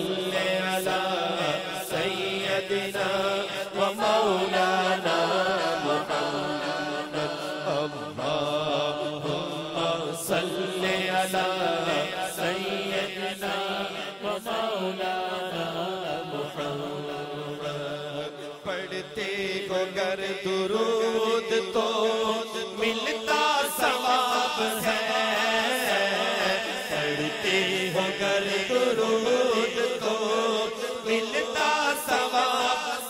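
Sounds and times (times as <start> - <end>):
men chanting over loudspeakers: 0.0 - 33.0.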